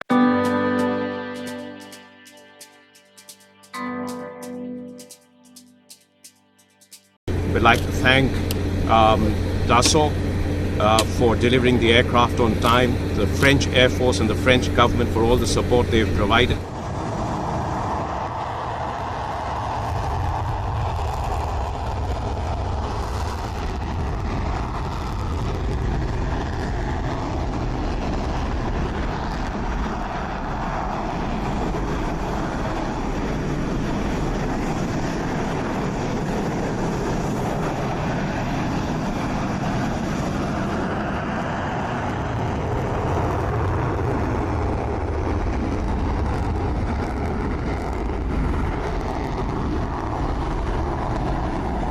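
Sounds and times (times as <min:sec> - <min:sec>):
jet engine rushing: 0:06.8 - 0:51.9.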